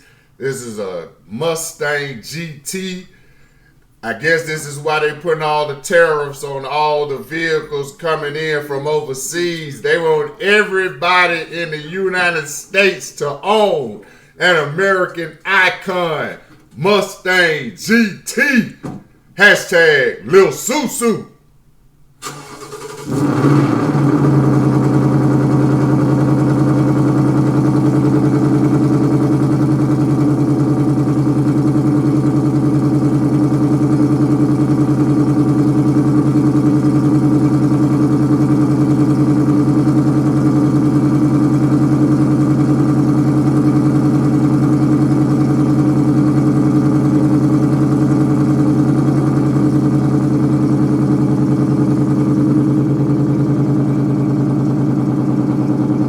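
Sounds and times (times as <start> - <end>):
car engine idling: 0.0 - 2.2, 3.0 - 20.8, 22.2 - 56.0.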